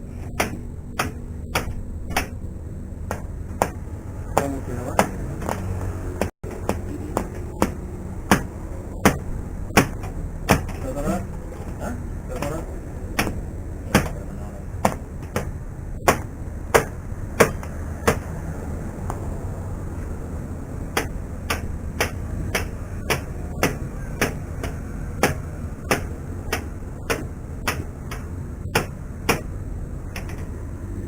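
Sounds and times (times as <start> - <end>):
steady low hum: 0.0 - 31.0
hammer striking steel: 0.2 - 2.4, 3.1 - 18.4, 21.0 - 29.6.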